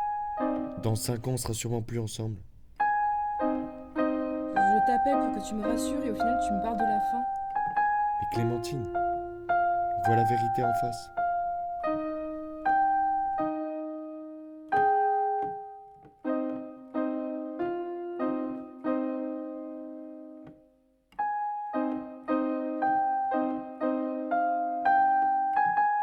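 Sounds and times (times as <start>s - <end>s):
solo piano playing slowly: 0.0s - 26.0s.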